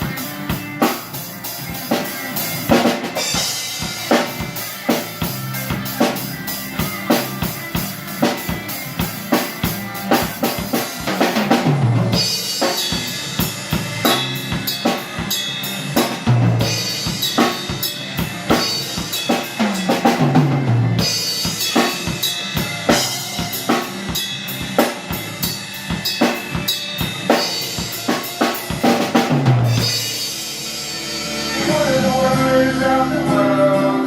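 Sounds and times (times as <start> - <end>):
bass guitar sliding: 0.0 - 25.8, 26.5 - 34.0
drum kit playing: 0.0 - 34.0.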